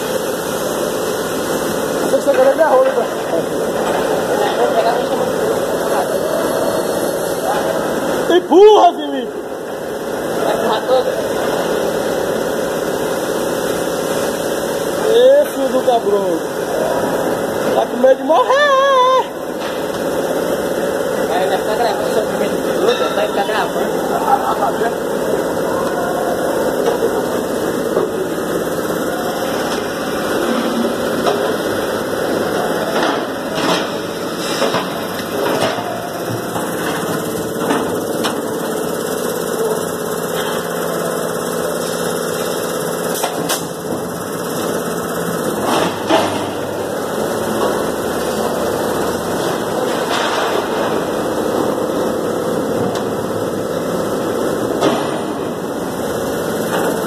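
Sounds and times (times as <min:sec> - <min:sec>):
machinery hum: 0:00.0 - 0:57.0.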